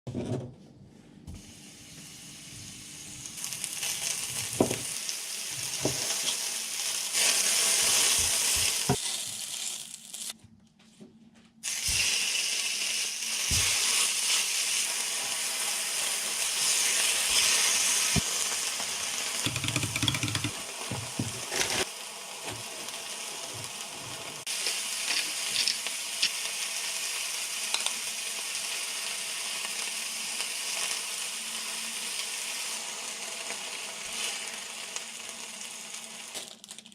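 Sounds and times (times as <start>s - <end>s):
food sizzling in a frying pan: 1.4s - 10.4s, 11.6s - 36.9s.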